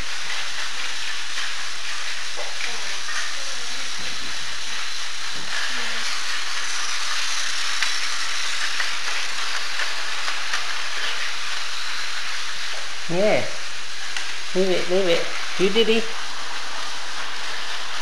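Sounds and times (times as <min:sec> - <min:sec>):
toy train motors whirring: 0:00.0 - 0:18.0.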